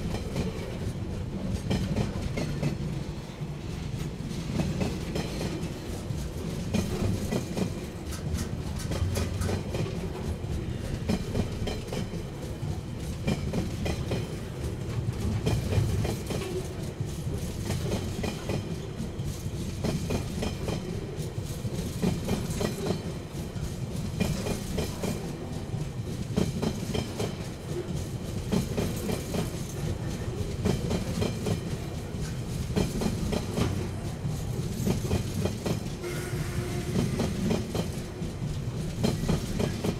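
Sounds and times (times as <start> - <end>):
freight train rumbling past: 0.0 - 39.9
wheels clacking over rail joints: 4.0 - 36.0.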